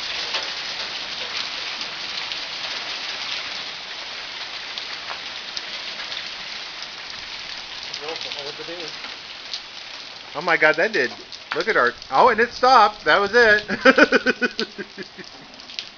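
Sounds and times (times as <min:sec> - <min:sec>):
hail and rain pattering: 0:00.0 - 0:15.9.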